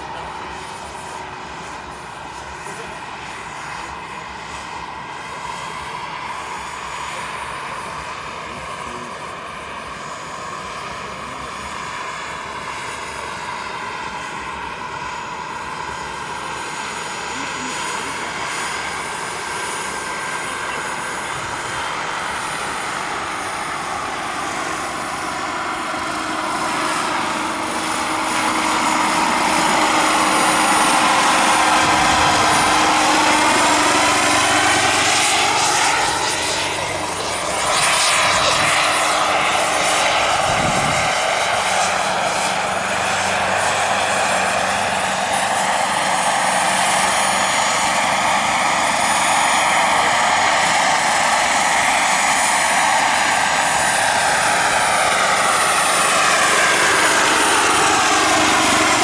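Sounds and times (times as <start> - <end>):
helicopter rotor rushing: 0.0 - 59.0
model helicopter turbine whine: 0.0 - 59.0.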